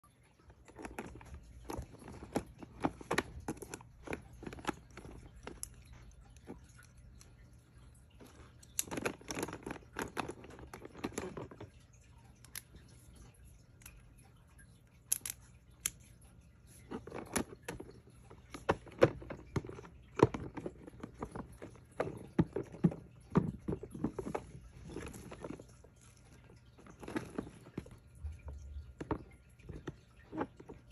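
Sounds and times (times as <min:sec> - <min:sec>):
plastic toys clicking and clattering: 0:00.4 - 0:30.9.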